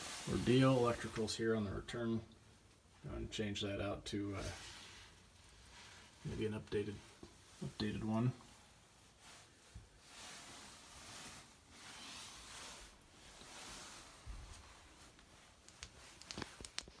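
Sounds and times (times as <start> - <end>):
faint rustling: 0.0 - 3.4, 4.1 - 17.0.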